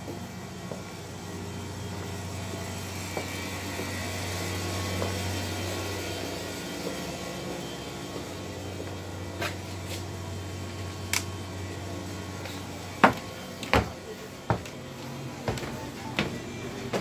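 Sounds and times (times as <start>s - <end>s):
electric machinery humming: 0.0s - 17.0s.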